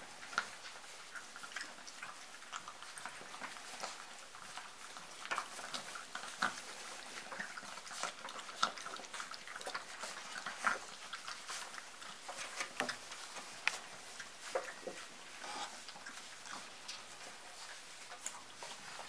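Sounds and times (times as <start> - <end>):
puppies eating from steel bowl: 0.0 - 19.0
puppies scrambling on wood shavings: 0.0 - 19.0.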